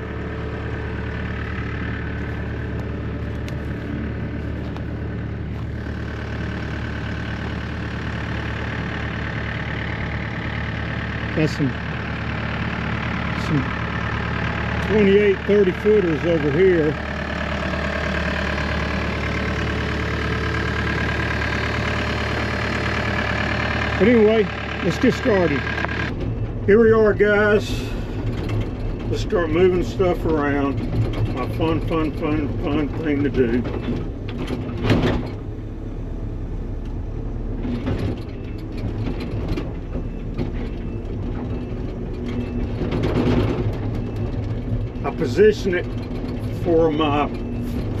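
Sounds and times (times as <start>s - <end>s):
machine engine idling: 0.0s - 48.0s.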